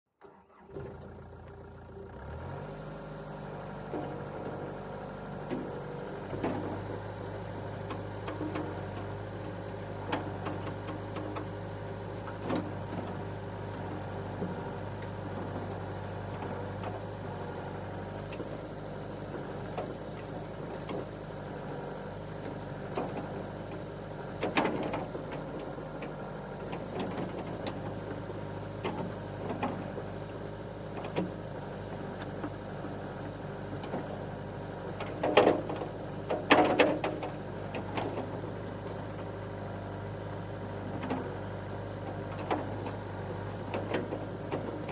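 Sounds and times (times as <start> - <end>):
diesel engine running: 0.5 - 44.9.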